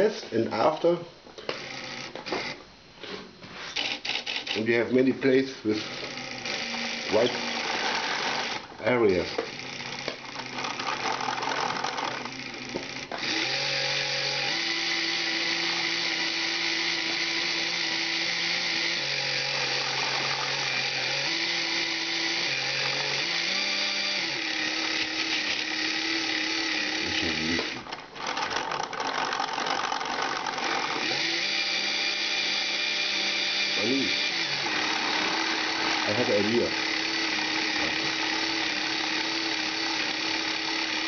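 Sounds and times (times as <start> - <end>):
electric motors and gears whirring: 1.4 - 4.8, 5.6 - 41.0.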